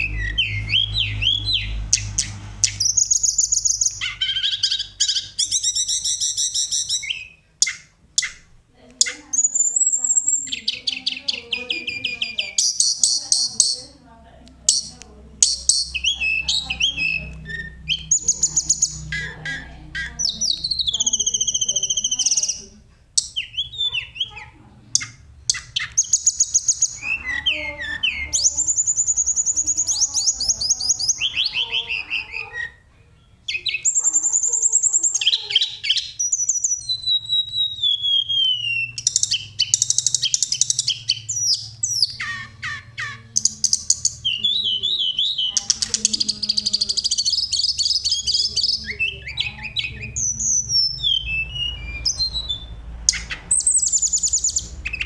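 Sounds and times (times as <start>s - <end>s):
songbird trilling and whistling: 0.0s - 14.0s, 14.6s - 32.9s, 33.5s - 55.0s.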